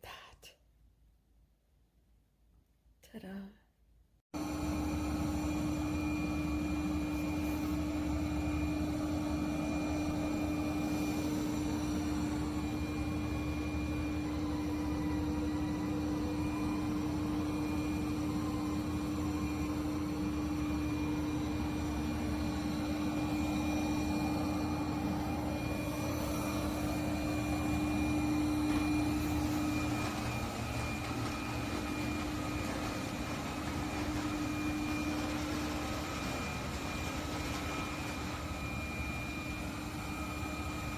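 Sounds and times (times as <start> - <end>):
suction motor humming: 4.4 - 40.9.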